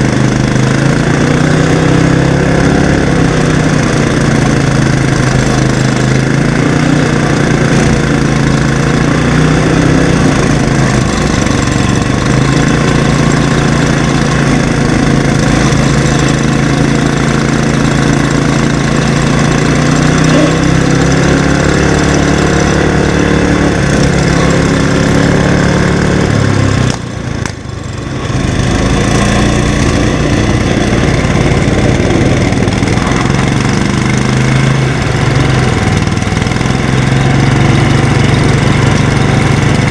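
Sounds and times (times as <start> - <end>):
garden tractor engines running: 0.0 - 39.9.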